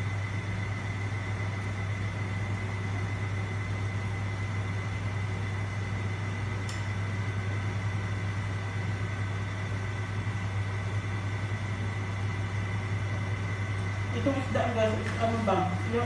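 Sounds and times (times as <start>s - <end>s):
appliance motor hum with whine: 0.0s - 16.0s.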